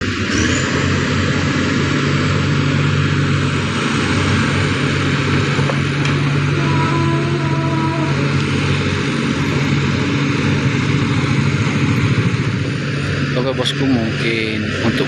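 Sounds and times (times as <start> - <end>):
heavy machinery engine hum: 0.0 - 15.0.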